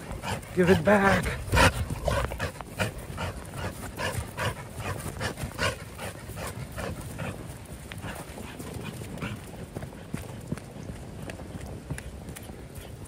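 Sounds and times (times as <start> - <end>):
dog panting hard: 0.0 - 10.5.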